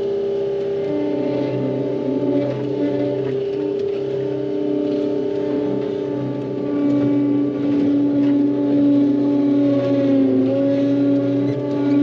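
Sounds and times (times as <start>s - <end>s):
engine and hydraulics droning: 0.0s - 12.0s.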